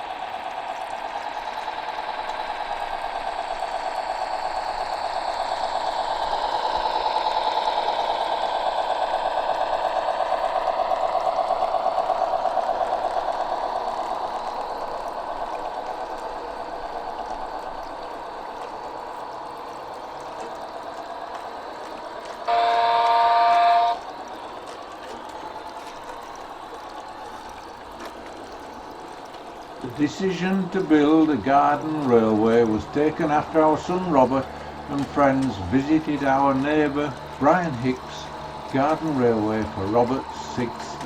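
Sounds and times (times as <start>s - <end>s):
steam locomotive chuffing: 0.0s - 41.0s.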